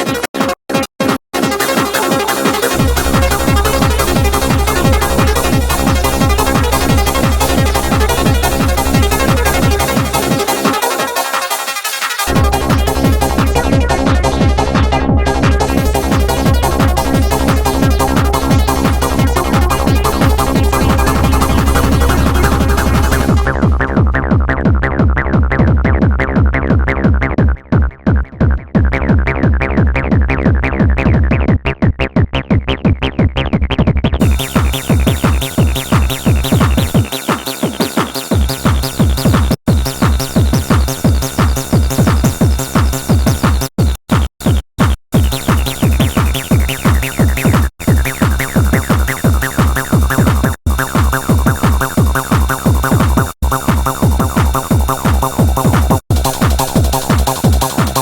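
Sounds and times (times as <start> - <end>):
techno track with pounding kick drum: 0.0 - 58.0.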